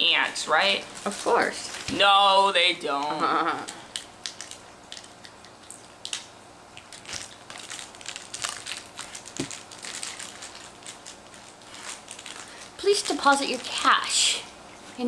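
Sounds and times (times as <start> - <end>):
plastic wrapper crinkling: 0.5 - 2.4, 3.9 - 14.2.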